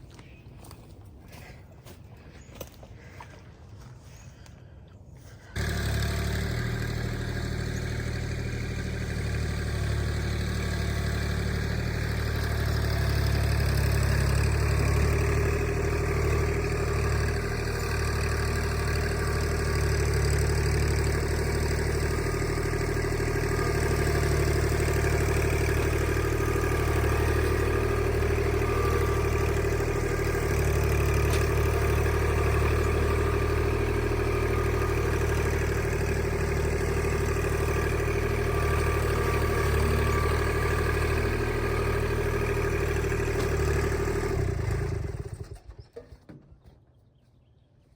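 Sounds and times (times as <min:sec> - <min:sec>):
tractor diesel engine running: 0:05.2 - 0:46.2.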